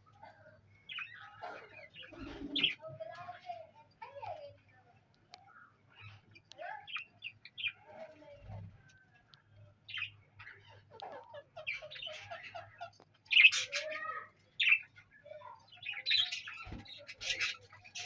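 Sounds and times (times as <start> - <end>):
small parrots chirping and chattering: 0.0 - 18.0.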